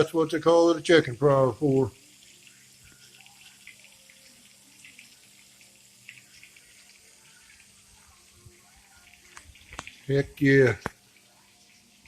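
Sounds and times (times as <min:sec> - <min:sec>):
chicken sizzling in fat: 0:00.0 - 0:12.0.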